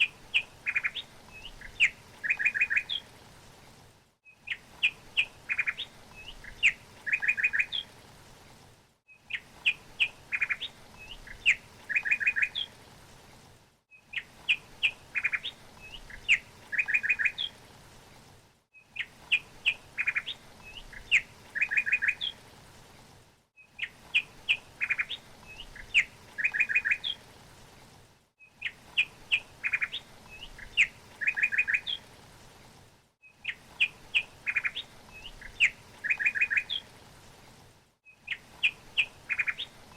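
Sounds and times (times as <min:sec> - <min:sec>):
faint steady hiss: 0:00.0 - 0:39.9
songbird chirping song: 0:00.0 - 0:39.9.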